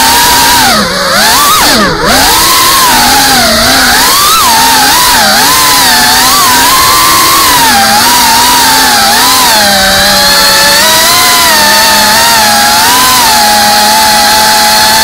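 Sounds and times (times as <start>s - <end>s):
drone motors buzzing: 0.0s - 15.0s.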